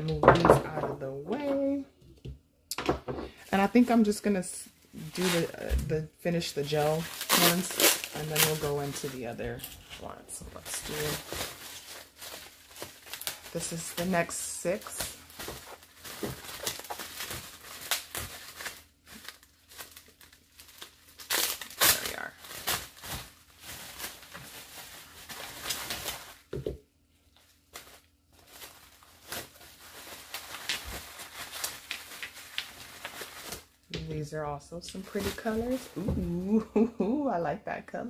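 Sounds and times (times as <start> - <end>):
bubble wrap crinkling: 3.4 - 36.6.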